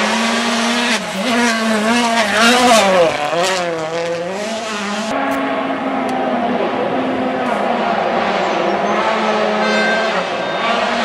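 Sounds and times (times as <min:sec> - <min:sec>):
rally car engine passing: 0:00.0 - 0:11.0.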